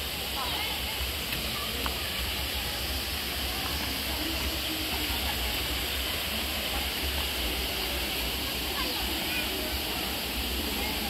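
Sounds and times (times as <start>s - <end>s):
faint distant voices: 0.0s - 11.0s
waterfall rushing: 0.0s - 11.0s.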